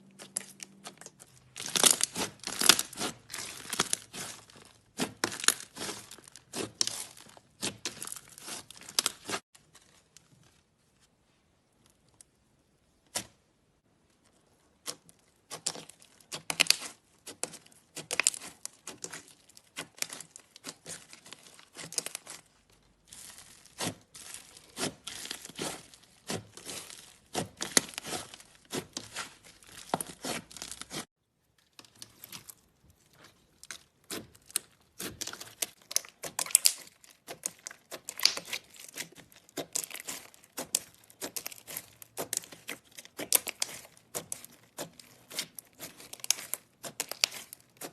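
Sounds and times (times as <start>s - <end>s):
slime crackling and popping: 0.1s - 9.4s, 14.8s - 32.6s, 33.5s - 47.9s.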